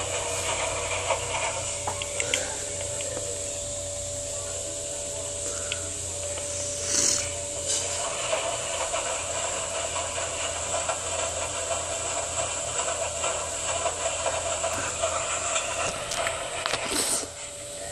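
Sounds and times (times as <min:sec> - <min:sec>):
hissing rattling wash noise: 0:00.0 - 0:17.9
washing machine hum: 0:00.0 - 0:17.9.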